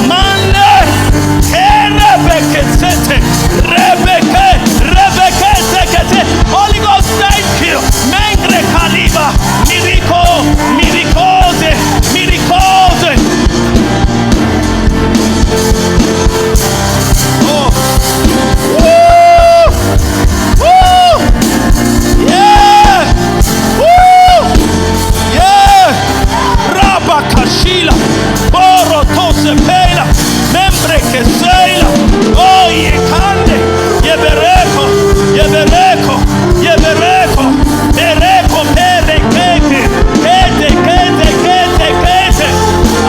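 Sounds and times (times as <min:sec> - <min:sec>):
worship music instruments: 0:00.0 - 0:43.0.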